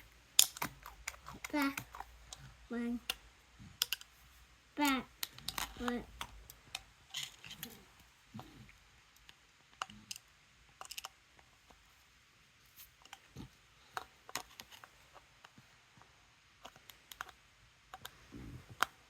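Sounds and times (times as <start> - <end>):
small parts and tools clicking: 0.0 - 4.2, 4.8 - 11.8, 12.8 - 19.0.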